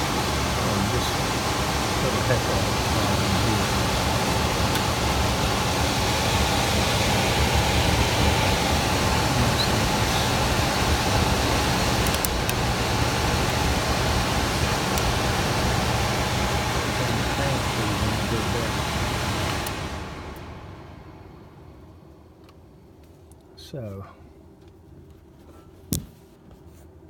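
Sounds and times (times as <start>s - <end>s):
furnace blower running: 0.0s - 22.5s.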